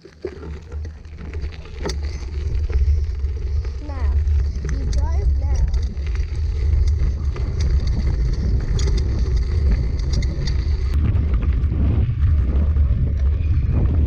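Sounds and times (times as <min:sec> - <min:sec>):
tyres rattling on gravel: 0:00.0 - 0:13.7
wind and vibration rumble: 0:00.0 - 0:14.0.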